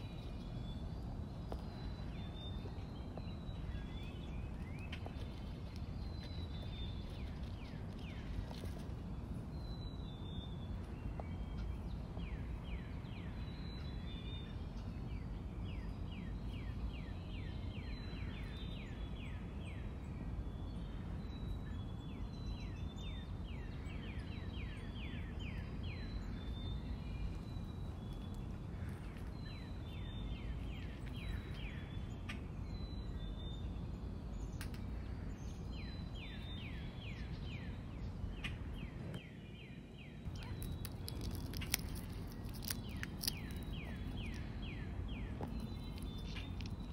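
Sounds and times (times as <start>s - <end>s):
low outdoor rumble: 0.0s - 46.9s
songbird singing: 0.0s - 46.9s.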